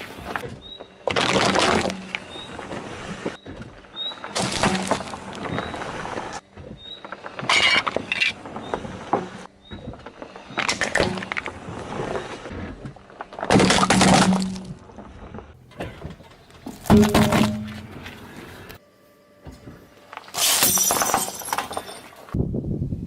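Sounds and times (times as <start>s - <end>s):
objects crunching under car tyres: 0.0s - 18.8s.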